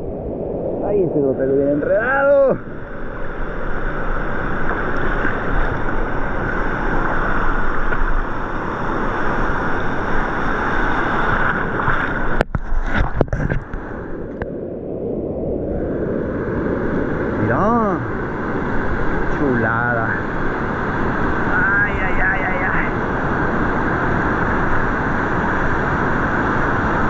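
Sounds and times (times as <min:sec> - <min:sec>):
waves washing around rocks: 0:00.0 - 0:27.0.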